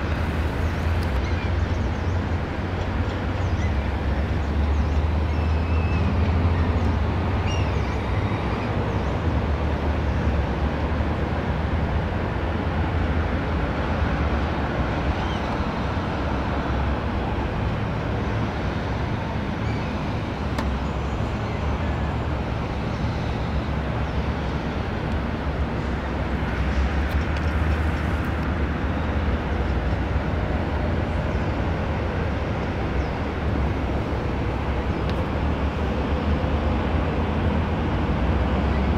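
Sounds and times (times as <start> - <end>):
outdoor background rumble and hiss: 0.0 - 38.9.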